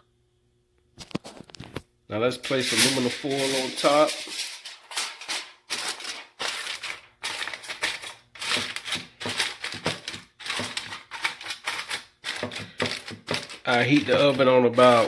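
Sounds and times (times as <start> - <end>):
aluminum foil crinkling: 2.4 - 15.0.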